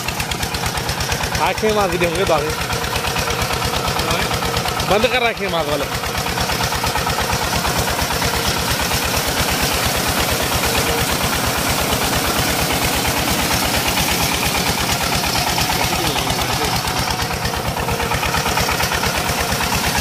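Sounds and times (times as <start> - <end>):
diesel engine running: 0.0 - 20.0
water gushing from a pipe: 0.0 - 20.0.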